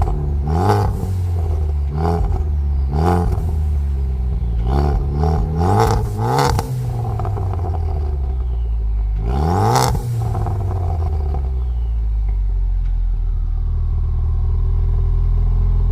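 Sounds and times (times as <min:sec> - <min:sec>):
car engine revving and idling: 0:00.0 - 0:15.9.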